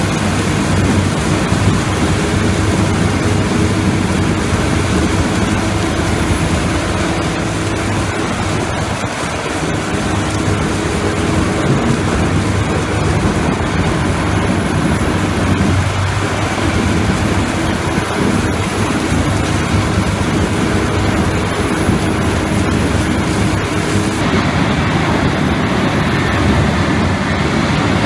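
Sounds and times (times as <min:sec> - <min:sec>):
heavy machine engine running: 0:00.0 - 0:28.0.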